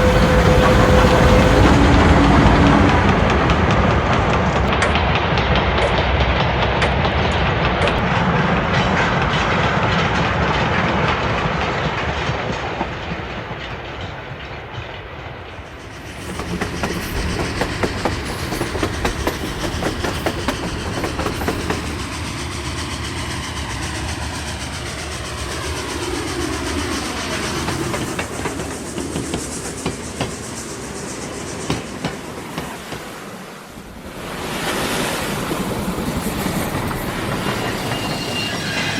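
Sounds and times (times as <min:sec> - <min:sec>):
train wheels clicking on rails: 0:00.0 - 0:38.9.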